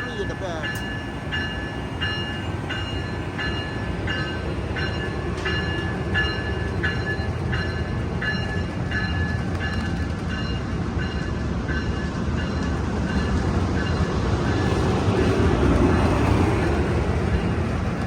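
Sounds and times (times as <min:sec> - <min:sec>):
train bell ringing: 0:00.0 - 0:17.8
passenger train rumbling: 0:00.0 - 0:18.0.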